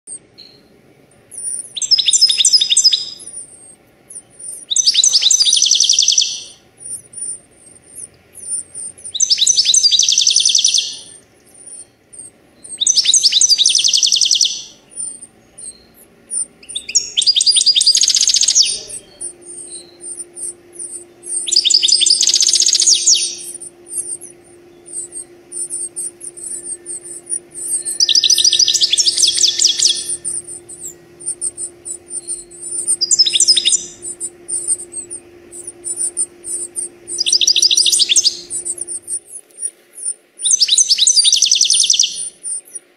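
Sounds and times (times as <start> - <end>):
high bird twittering: 0.1 - 42.9
steady low hum: 0.1 - 42.9.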